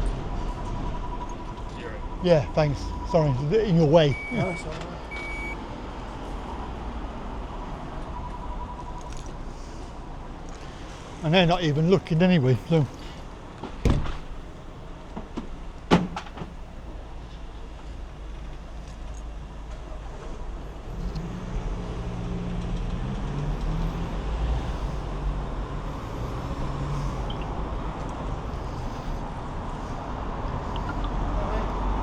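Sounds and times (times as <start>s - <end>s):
heavy vehicle engine humming: 0.0s - 32.0s
street traffic: 0.0s - 32.0s.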